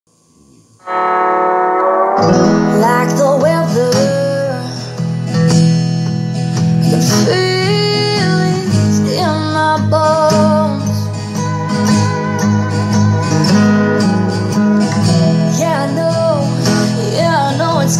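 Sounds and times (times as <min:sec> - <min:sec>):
recorded backing track: 0:00.1 - 0:17.9
acoustic guitar: 0:00.4 - 0:17.9.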